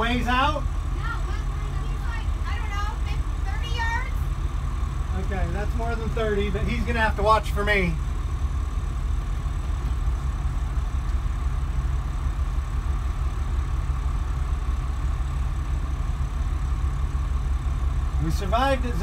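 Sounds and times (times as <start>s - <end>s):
diesel engines running steadily: 0.0s - 19.0s.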